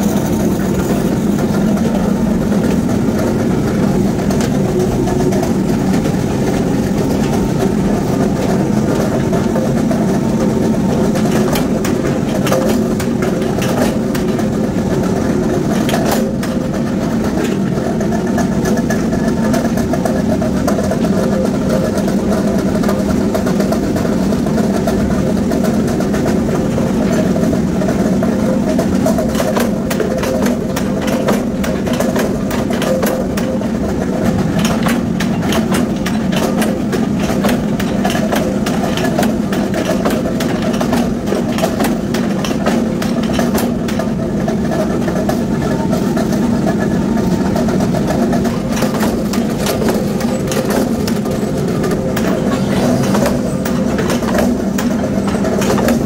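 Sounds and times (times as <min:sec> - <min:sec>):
power press machine hum: 0:00.0 - 0:56.0.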